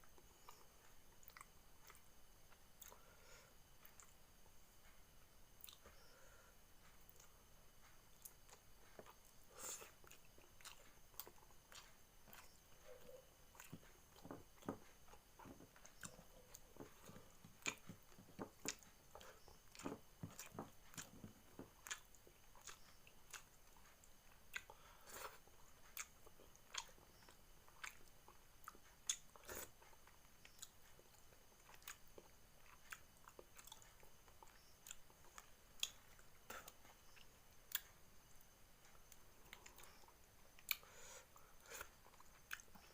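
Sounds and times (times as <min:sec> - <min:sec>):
person chewing food: 0:00.0 - 0:05.0, 0:05.6 - 0:42.9.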